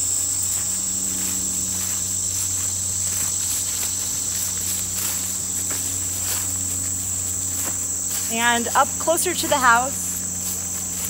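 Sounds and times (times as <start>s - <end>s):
crickets trilling: 0.0s - 11.0s
footsteps swishing through grass: 0.0s - 11.0s.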